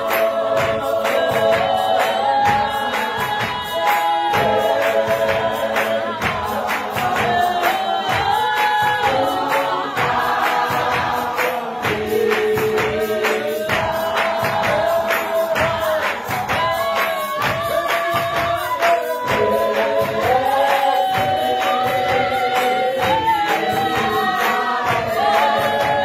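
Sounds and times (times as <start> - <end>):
large choir singing in harmony: 0.0 - 26.0
steady beat: 0.0 - 26.0.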